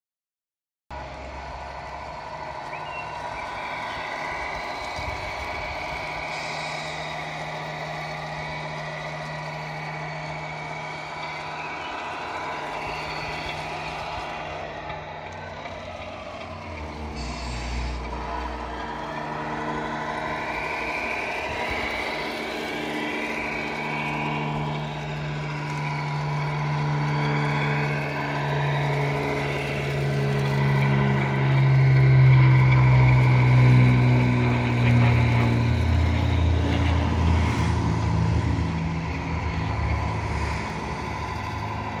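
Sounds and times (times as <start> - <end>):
model truck diesel engine sound: 0.9 - 42.0.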